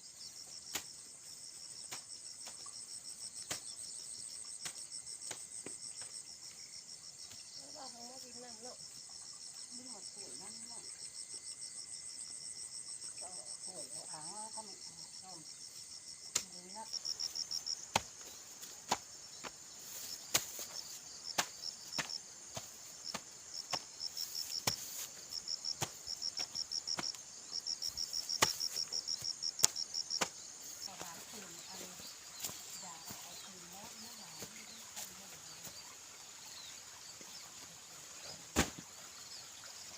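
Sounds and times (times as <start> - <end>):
insects chirping trill: 0.0 - 39.9.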